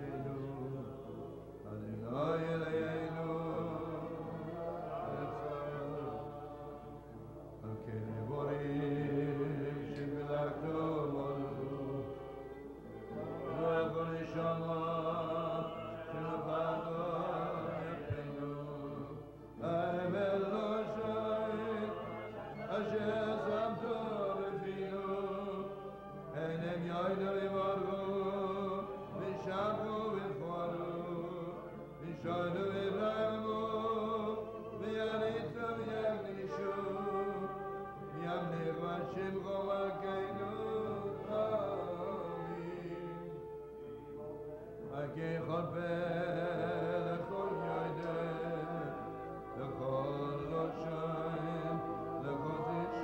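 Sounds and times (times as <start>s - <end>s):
man singing chant-like melody: 0.0s - 43.3s.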